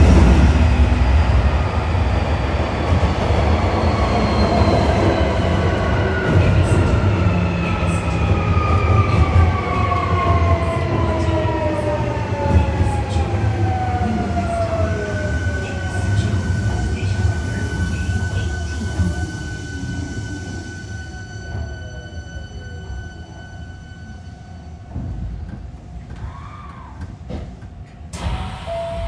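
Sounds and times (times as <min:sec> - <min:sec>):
wheels rumbling on rail: 0:00.0 - 0:28.1.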